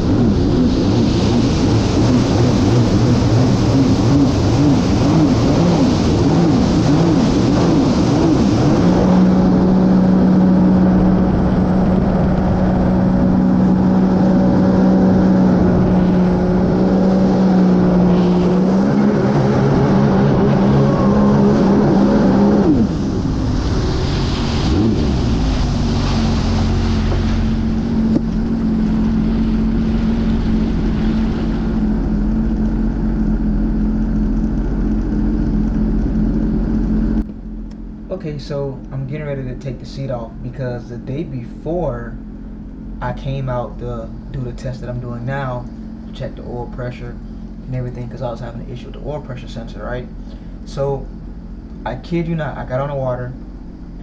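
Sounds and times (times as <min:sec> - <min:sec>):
personal watercraft engine running: 0:00.0 - 0:54.0.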